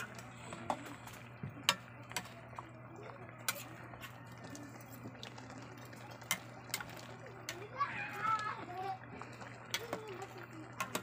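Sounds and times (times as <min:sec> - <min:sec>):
pot simmering: 0:00.0 - 0:11.0.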